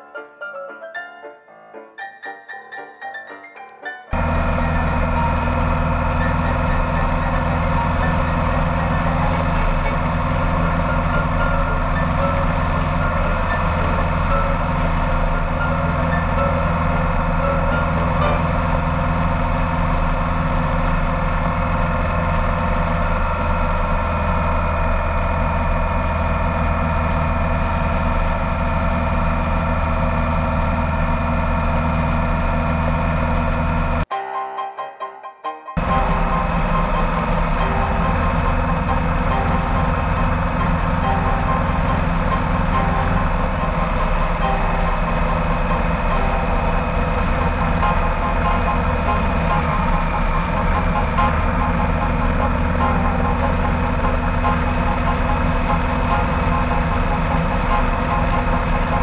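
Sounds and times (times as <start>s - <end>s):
motorcycle engine cruising: 4.1s - 34.1s, 35.8s - 59.0s.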